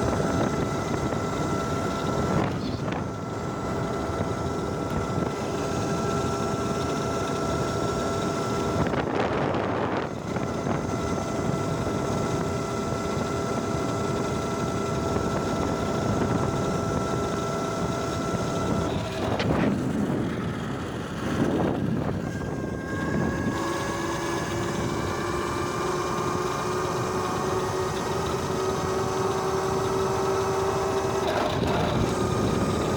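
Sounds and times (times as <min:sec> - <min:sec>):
electric bike motor whining: 0:00.0 - 0:32.9
wind buffeting microphone: 0:00.0 - 0:32.9.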